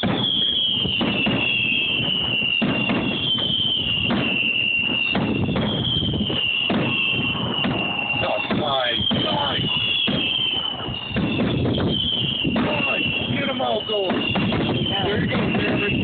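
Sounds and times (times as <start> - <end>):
fireworks bangs: 0.0 - 16.0
high wavering whistle: 0.0 - 16.0.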